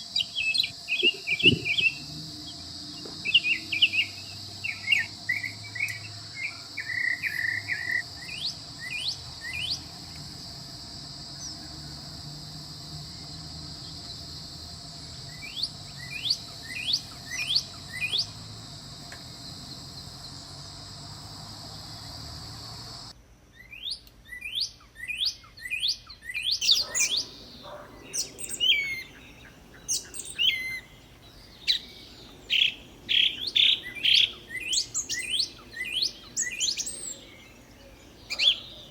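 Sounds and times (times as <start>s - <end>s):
small birds chirping: 0.0s - 20.8s, 21.6s - 38.9s
high insect drone: 0.0s - 23.2s, 26.6s - 38.9s.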